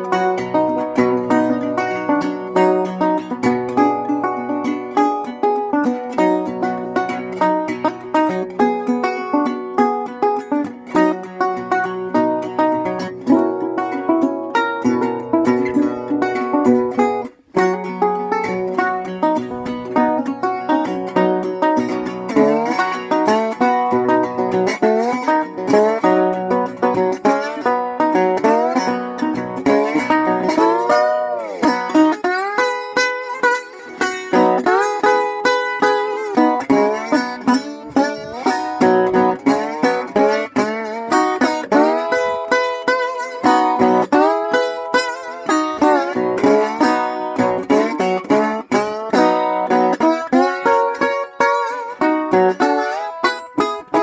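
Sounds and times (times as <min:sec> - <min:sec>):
plucked string instrument: 0:00.0 - 0:54.0.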